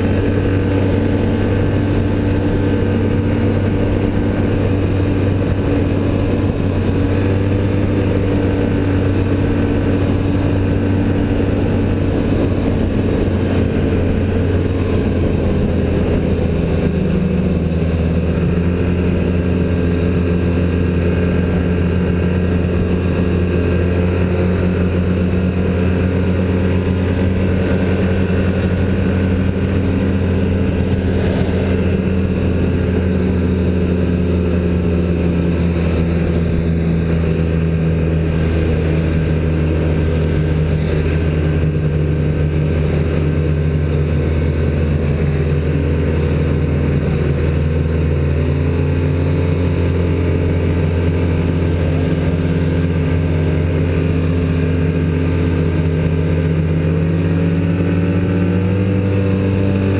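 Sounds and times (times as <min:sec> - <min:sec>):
snowmobile engine droning: 0:00.0 - 0:59.9.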